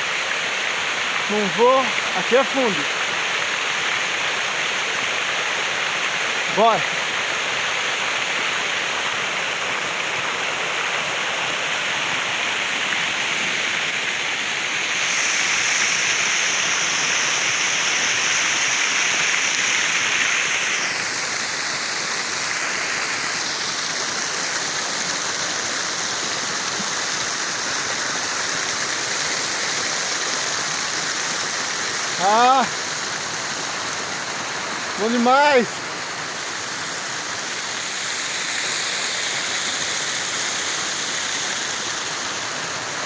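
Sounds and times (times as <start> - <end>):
waterfall roaring: 1.1 - 3.2, 5.7 - 7.8, 8.9 - 41.2.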